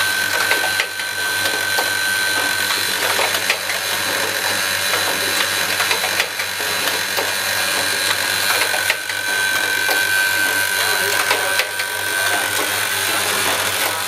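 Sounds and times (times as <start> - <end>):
machine hum and high tone: 0.0 - 14.0.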